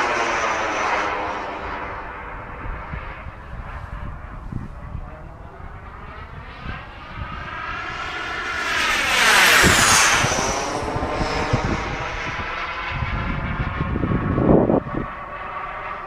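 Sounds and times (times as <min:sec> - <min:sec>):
model jet turbine whining: 0:00.0 - 0:16.0.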